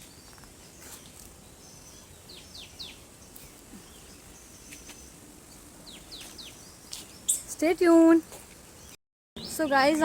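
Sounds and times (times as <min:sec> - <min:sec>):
birds calling: 0:00.0 - 0:10.0
faint outdoor background noise: 0:00.0 - 0:10.0.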